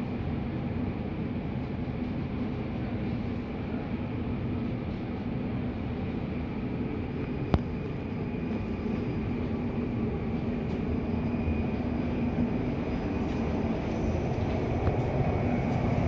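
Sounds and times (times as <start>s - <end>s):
train rumbling in tunnel: 0.0s - 16.0s.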